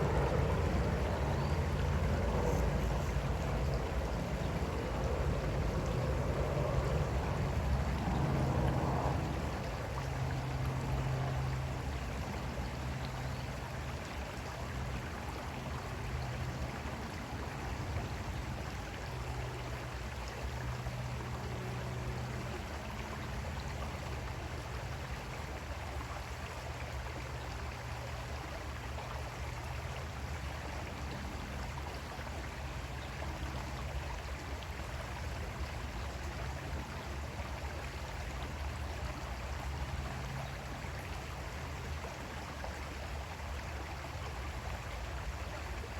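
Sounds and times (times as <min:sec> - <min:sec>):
creek water flowing over rocks: 0:00.0 - 0:45.9.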